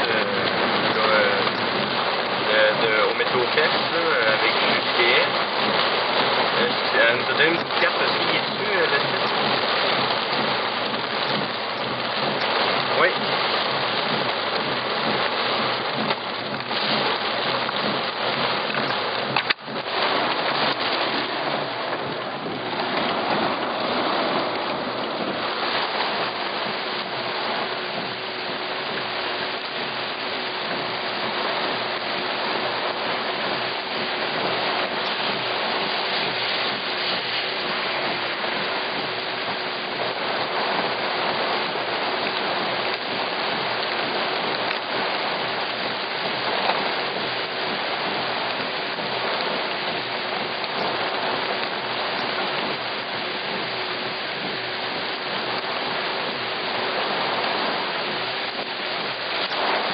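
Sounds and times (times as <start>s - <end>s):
rain pouring onto pavement: 0.0s - 59.9s
rain streaming on car glass: 0.0s - 59.9s.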